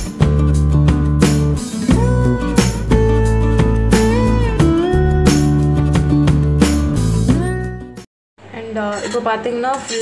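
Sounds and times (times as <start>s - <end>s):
background music with sliding melody: 0.0s - 8.1s.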